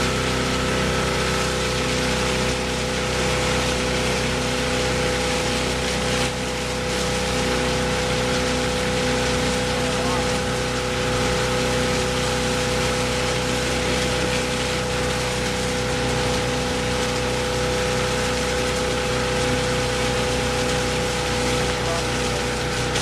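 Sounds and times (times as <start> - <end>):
boat engine droning: 0.0 - 23.0
rush of water spray: 0.0 - 23.0.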